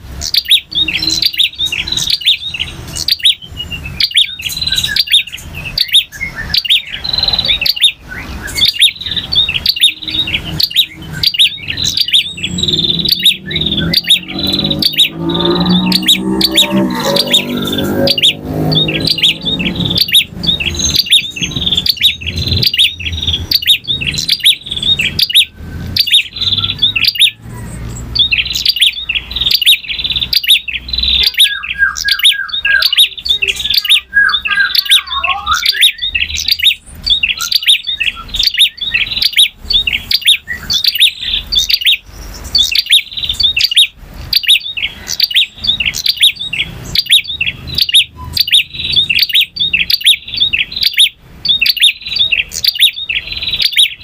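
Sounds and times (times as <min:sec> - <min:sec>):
bird singing rapid sharp chirps: 0:00.0 - 0:54.0.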